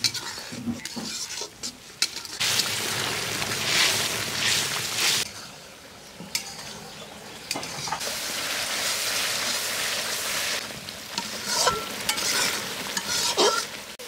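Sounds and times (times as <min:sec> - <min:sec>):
spice paste sizzling in oil: 0:00.0 - 0:14.0.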